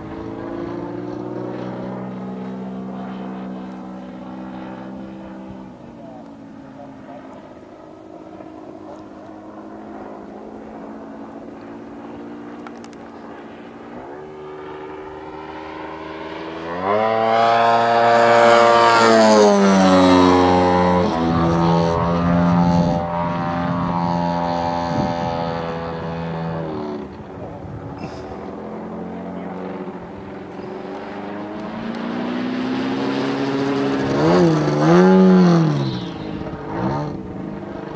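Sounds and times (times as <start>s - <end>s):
model airplane engine and propeller: 0.0s - 37.9s.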